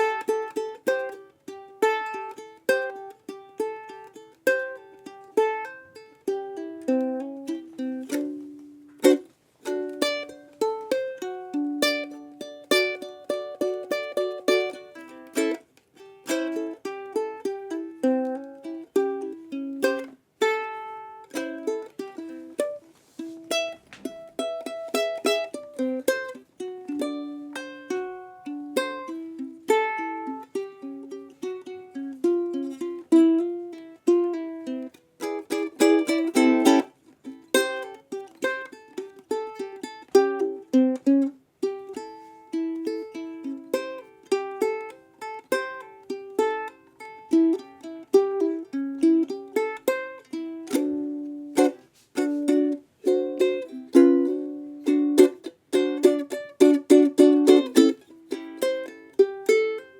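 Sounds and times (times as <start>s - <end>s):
plucked ukulele melody: 0.0s - 59.9s.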